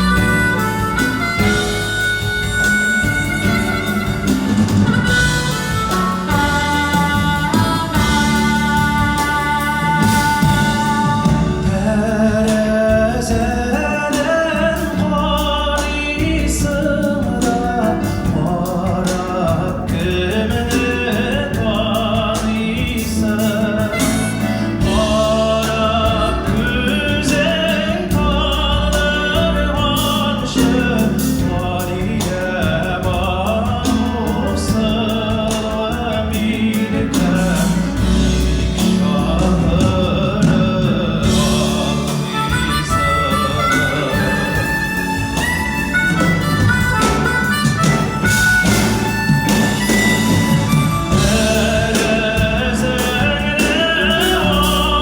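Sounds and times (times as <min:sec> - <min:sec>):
band backing: 0:00.0 - 0:55.0
person singing: 0:00.0 - 0:55.0.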